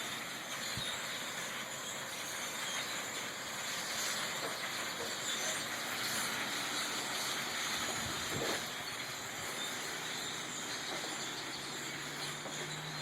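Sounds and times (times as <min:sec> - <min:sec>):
flock of birds chattering: 0:00.2 - 0:13.0.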